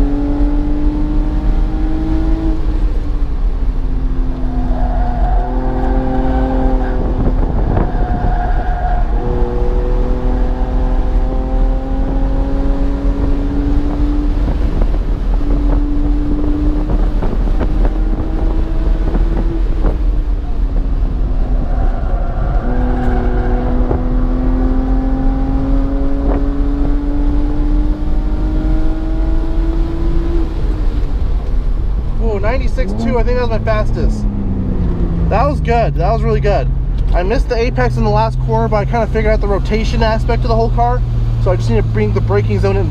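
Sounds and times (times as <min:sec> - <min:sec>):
car engine accelerating: 0:00.0 - 0:42.9
low road and wind rumble: 0:00.0 - 0:42.9.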